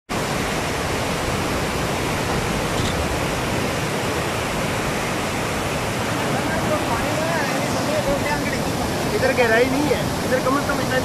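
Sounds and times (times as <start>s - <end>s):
floodwater rushing and churning: 0.1s - 11.0s.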